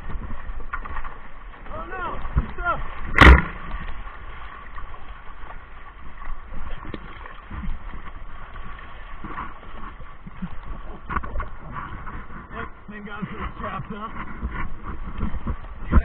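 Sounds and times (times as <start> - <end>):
knocks and thuds from raft: 0.0 - 5.0, 5.6 - 16.0
river water splashing: 0.0 - 16.0.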